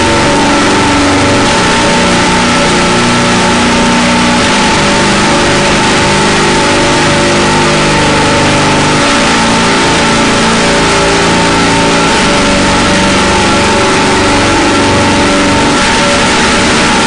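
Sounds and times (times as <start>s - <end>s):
distorted noise wall: 0.0s - 17.0s
low droning tones: 0.0s - 17.0s.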